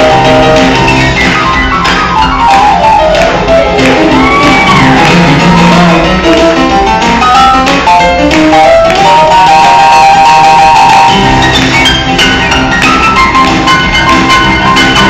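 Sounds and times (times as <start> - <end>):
electronic keyboard: 0.0 - 15.0
upbeat gospel band music: 0.0 - 15.0.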